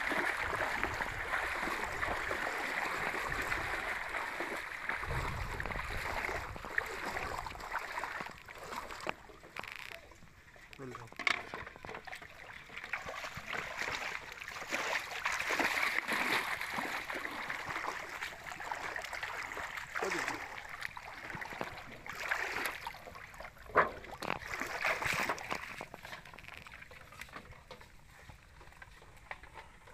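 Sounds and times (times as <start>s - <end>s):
person wading through water: 0.0s - 29.9s.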